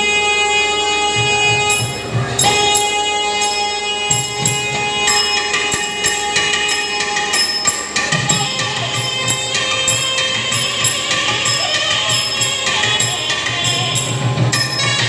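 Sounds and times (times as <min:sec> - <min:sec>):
double reed wind melody: 0:00.0 - 0:15.0
steady drone: 0:00.0 - 0:15.0
drum strokes: 0:01.1 - 0:15.0.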